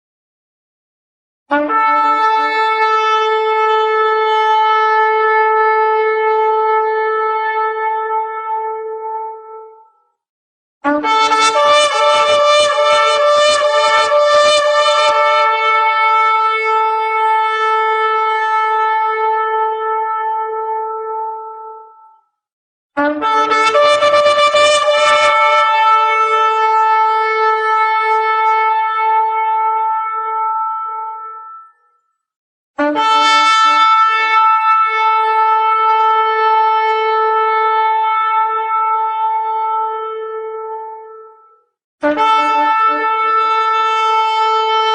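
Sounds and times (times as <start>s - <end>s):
shofar blast: 1.5s - 9.8s, 10.8s - 22.0s, 23.0s - 31.8s, 32.8s - 44.9s.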